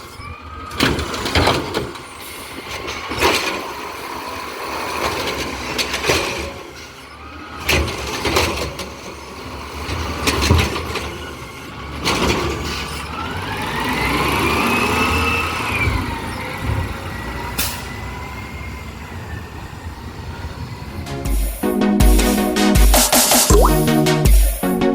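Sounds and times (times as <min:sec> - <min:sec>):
garbage truck engine rumbling: 0:00.0 - 0:22.5.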